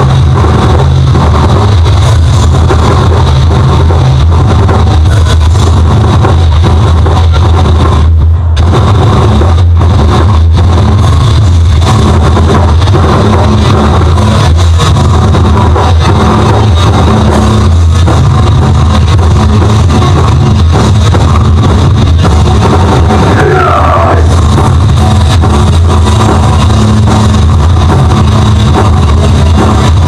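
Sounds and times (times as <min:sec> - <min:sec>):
bass guitar: 0:00.0 - 0:30.0
distorted electric guitars: 0:00.0 - 0:30.0
drums: 0:00.0 - 0:30.0.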